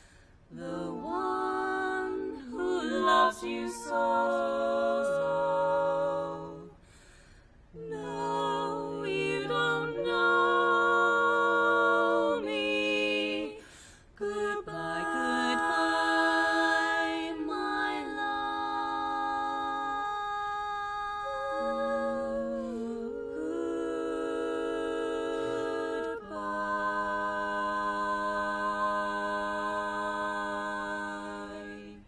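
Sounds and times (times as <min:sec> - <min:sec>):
women singing a cappella harmony: 0:00.0 - 0:32.0.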